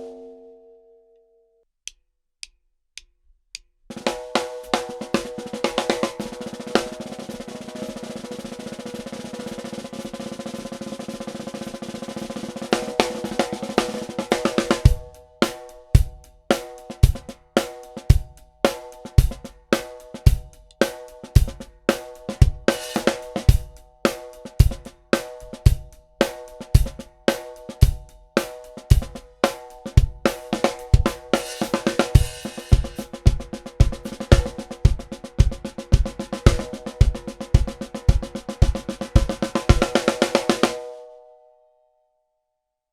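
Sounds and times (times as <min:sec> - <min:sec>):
drum groove: 0:03.9 - 0:40.8
snare drum roll: 0:03.9 - 0:41.0.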